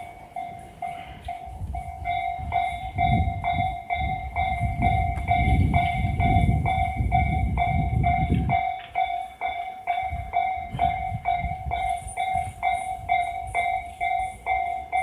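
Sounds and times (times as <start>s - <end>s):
level crossing warning bell: 0.0s - 15.0s
train wheels clattering on rails: 0.0s - 15.0s.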